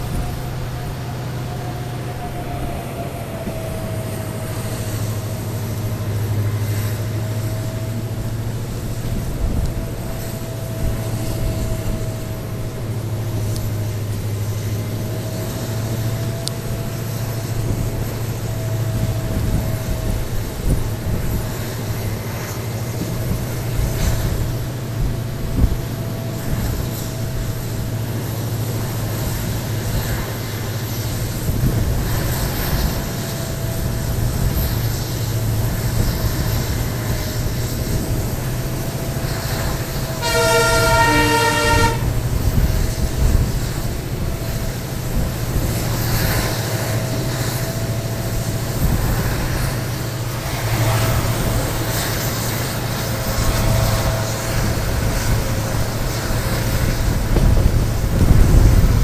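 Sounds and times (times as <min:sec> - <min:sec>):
diesel locomotive hum: 0:00.0 - 0:59.0
locomotive horn: 0:00.0 - 0:59.0
train rumble and rail noise: 0:00.0 - 0:59.0.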